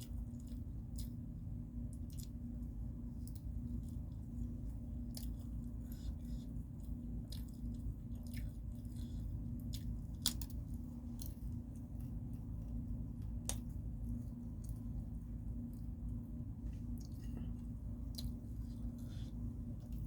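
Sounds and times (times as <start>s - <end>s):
person chewing and smacking: 0.0s - 20.0s
steady low hum: 0.0s - 20.0s.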